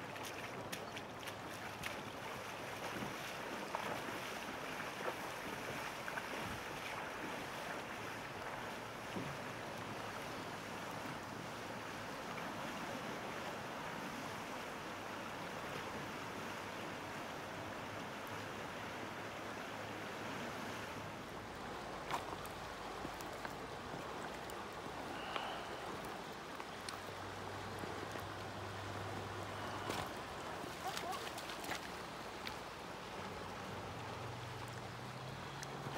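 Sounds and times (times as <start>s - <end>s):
river rushing: 0.0s - 35.9s.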